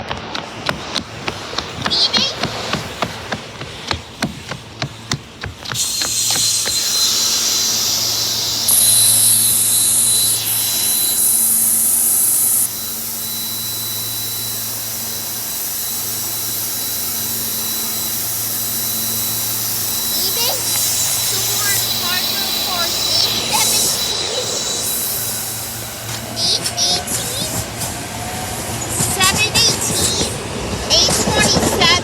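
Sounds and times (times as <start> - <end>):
electric train humming and whining: 0.0 - 32.0.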